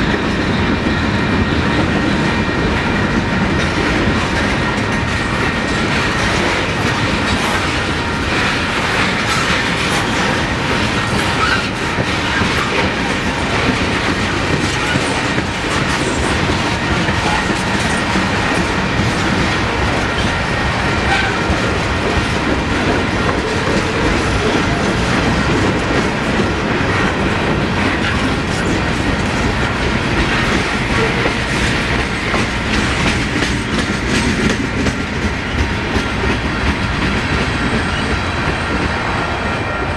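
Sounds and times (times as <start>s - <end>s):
freight train rolling past: 0.0s - 39.9s
wheels clicking over rail joints: 3.5s - 38.9s.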